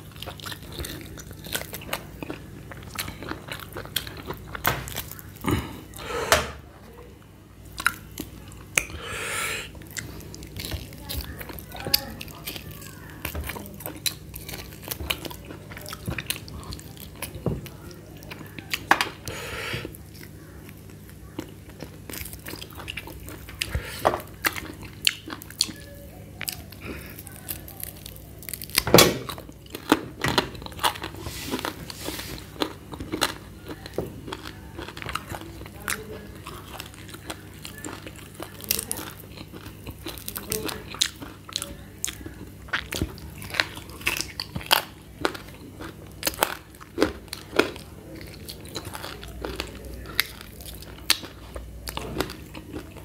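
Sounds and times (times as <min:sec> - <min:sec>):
man chewing meat off bones: 0:00.0 - 0:06.6, 0:07.7 - 0:53.0.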